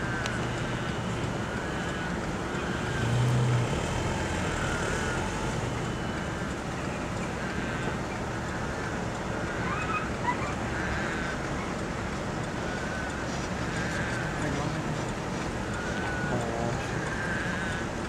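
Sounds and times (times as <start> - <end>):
vehicle engine and road hum: 0.0 - 18.0.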